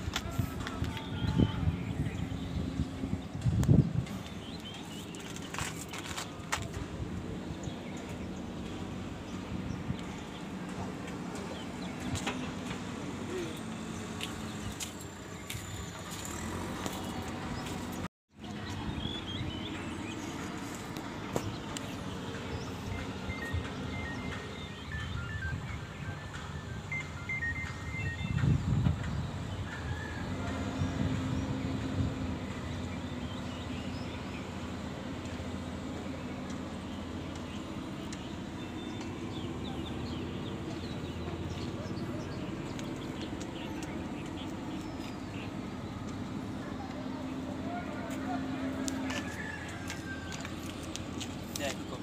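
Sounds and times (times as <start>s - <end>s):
outdoor background noise: 0.0s - 52.0s
birds chirping: 0.4s - 52.0s.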